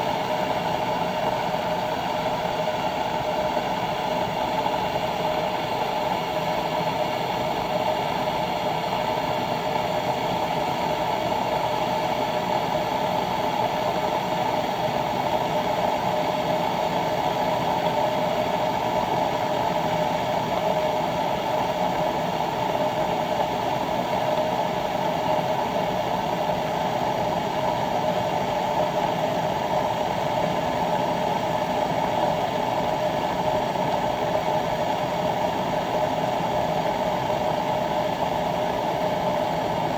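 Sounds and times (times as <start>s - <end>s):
electric kettle heating water: 0.0s - 39.9s.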